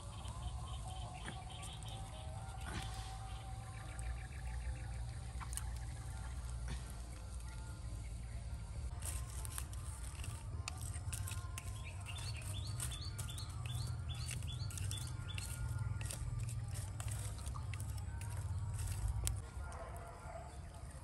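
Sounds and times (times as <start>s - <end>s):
bird chirping: 0.0s - 9.0s, 10.1s - 19.4s
stick stirring charcoal embers: 0.0s - 21.0s.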